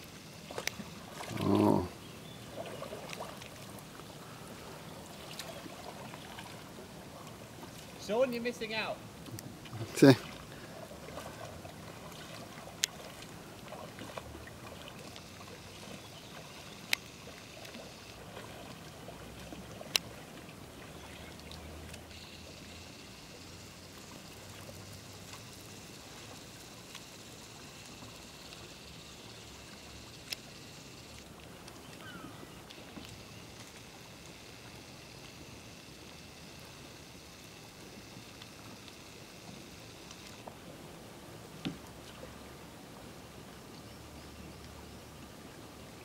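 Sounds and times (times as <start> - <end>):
faint water trickling: 0.0 - 46.0.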